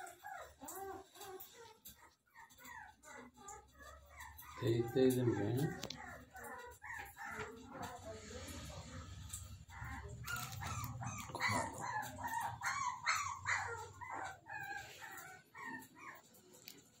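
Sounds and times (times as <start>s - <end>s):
puppy yelping and whining: 0.0s - 8.0s, 9.3s - 17.0s.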